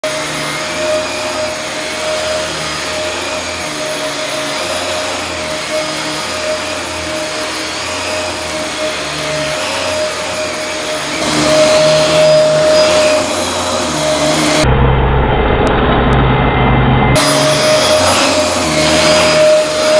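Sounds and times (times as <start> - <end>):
vacuum cleaner whining on rug: 0.0 - 14.7, 17.1 - 19.9.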